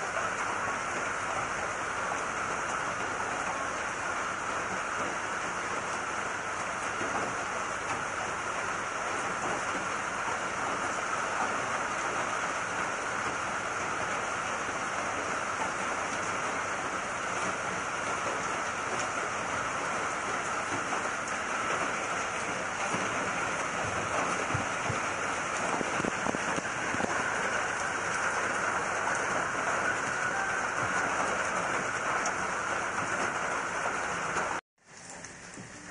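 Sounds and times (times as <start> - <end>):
heavy rain pouring: 0.0 - 35.9.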